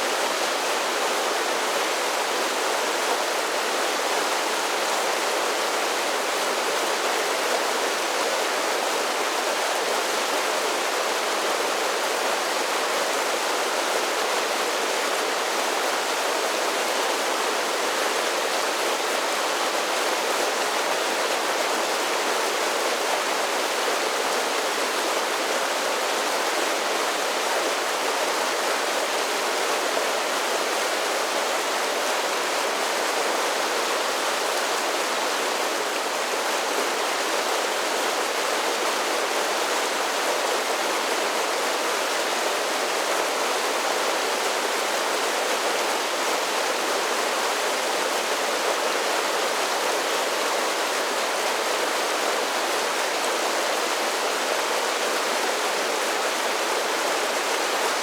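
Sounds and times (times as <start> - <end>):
creek rushing over waterfalls: 0.0 - 58.0.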